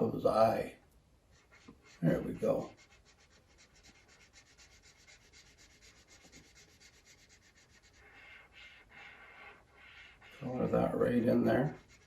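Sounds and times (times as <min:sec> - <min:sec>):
coloring pencil scratching on paper: 0:01.3 - 0:12.0.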